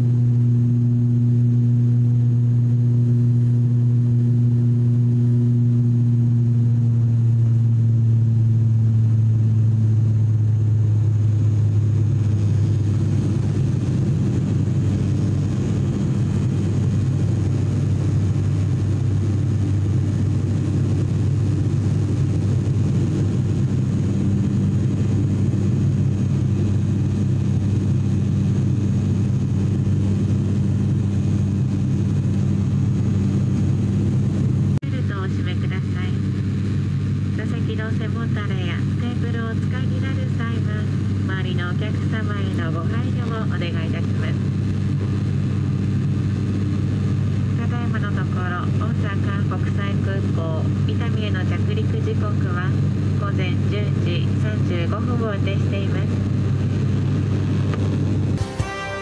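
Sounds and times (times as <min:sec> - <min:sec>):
turboprop engines droning: 0:00.0 - 0:59.0.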